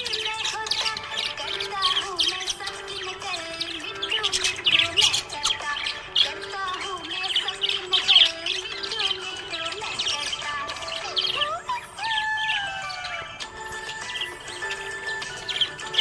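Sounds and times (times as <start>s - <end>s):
background music: 0.0s - 16.0s
budgerigars chirping: 0.0s - 16.0s.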